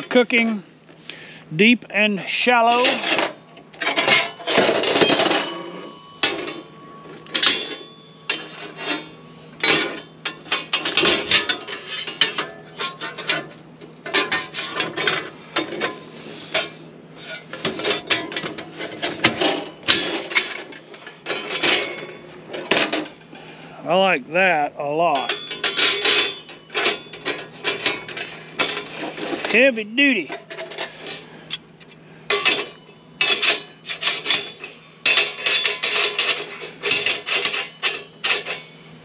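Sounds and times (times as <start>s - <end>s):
metal panels clanking and clicking: 2.4s - 23.2s, 25.1s - 38.8s.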